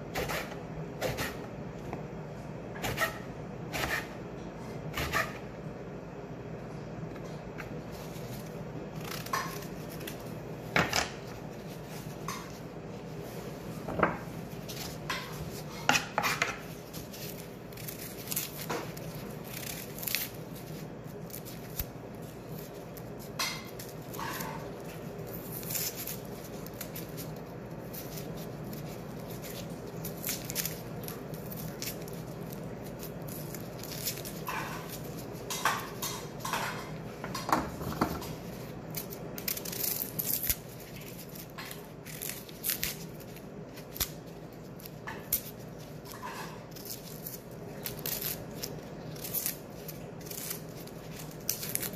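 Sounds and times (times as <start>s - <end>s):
onion being peeled: 0.0s - 5.6s, 7.0s - 51.9s.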